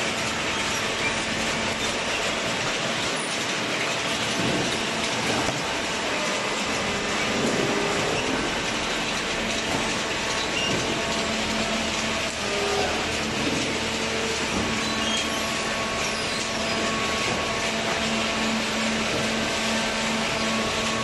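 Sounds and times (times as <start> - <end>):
conveyor mechanical drone: 0.0 - 21.0.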